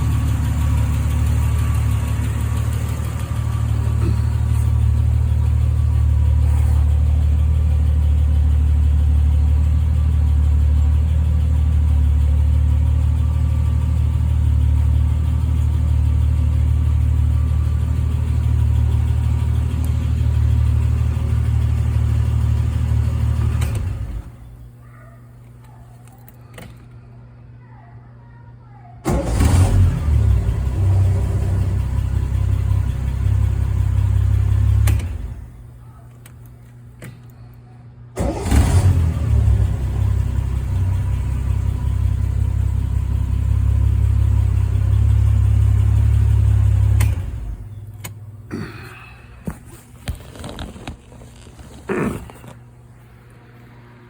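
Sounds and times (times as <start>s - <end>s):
car engine idling: 0.0s - 25.5s, 29.1s - 37.3s, 38.2s - 54.0s.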